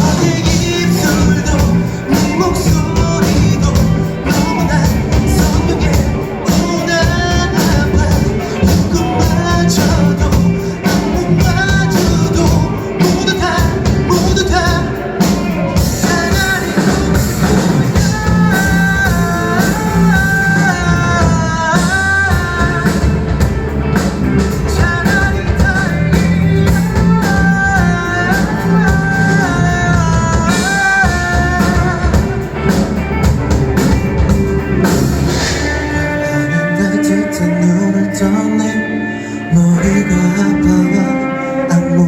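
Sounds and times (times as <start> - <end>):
drum kit: 0.0 - 36.9
bass guitar: 0.0 - 42.0
lead melody: 0.0 - 42.0
rock band playing live: 0.0 - 42.0.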